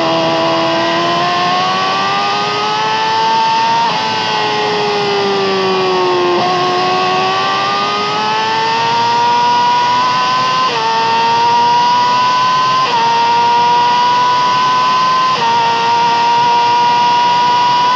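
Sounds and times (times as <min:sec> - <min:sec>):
motorcycle engine at high revs: 0:00.0 - 0:17.9.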